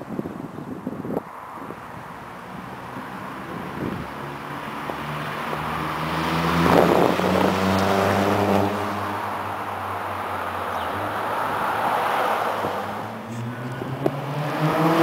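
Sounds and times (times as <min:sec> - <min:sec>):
car driving past: 0:02.3 - 0:15.0.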